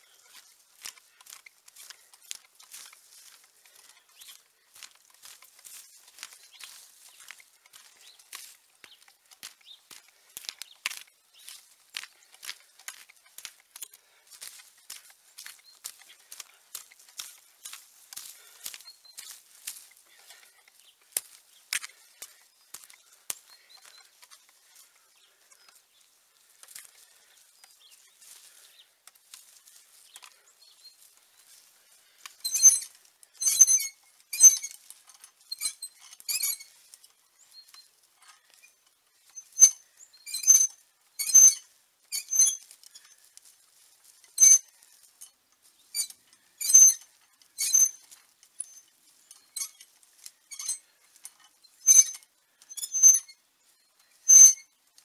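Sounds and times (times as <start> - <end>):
metal tines scratching soil: 0.0 - 25.7, 29.6 - 54.8.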